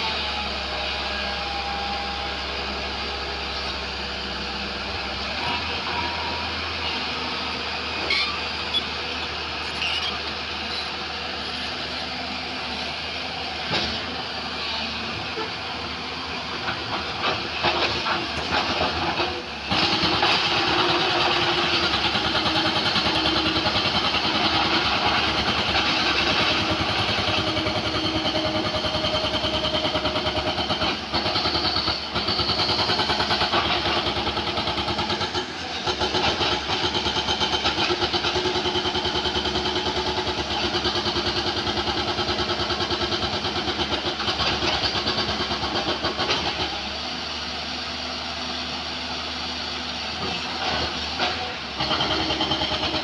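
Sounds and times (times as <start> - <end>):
excavator engine working under load: 0.0 - 53.0.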